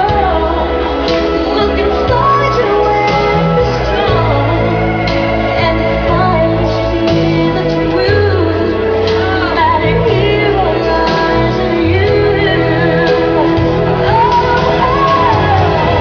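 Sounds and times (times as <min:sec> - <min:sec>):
held bass notes: 0:00.0 - 0:16.0
song with sung lead vocal: 0:00.0 - 0:16.0.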